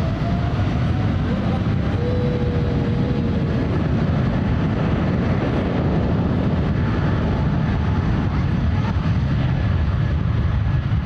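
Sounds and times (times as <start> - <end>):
jet engines deep rumble: 0.0 - 11.0.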